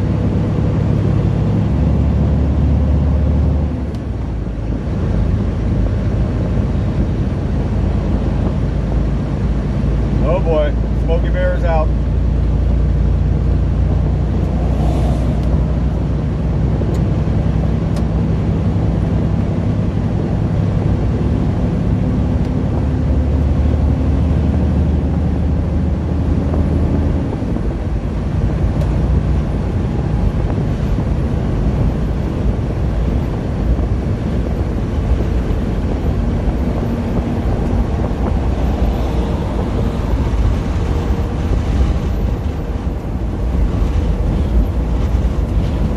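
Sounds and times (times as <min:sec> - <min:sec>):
diesel truck engine droning: 0:00.0 - 0:45.9
road and wind noise: 0:00.0 - 0:45.9.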